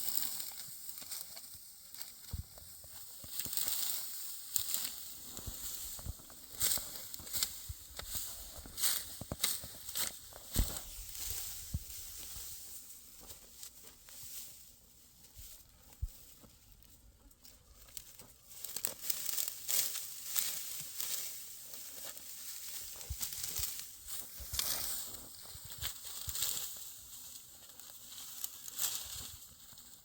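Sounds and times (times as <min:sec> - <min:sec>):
dry straw rustling and crackling: 0:00.0 - 0:30.0.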